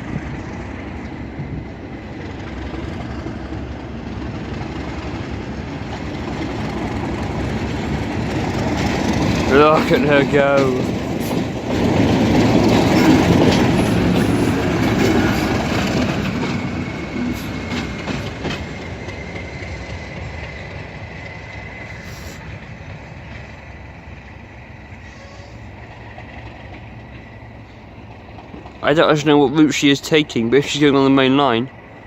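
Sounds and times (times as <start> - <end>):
diesel locomotive engine: 0.0 - 32.0.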